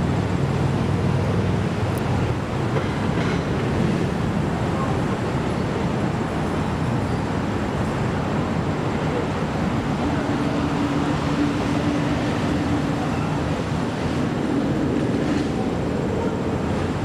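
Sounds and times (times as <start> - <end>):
low rumbling outdoor noise: 0.0 - 17.0.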